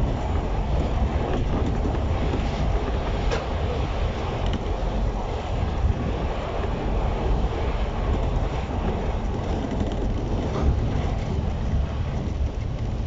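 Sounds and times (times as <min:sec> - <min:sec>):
stationary electric train rumble: 0:00.0 - 0:13.0.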